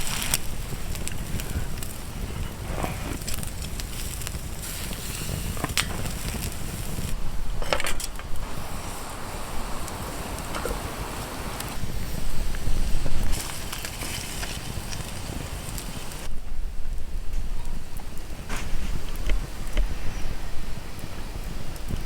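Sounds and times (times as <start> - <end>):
campfire crackling and popping: 0.0 - 22.0
low rumble of wind: 0.0 - 22.0.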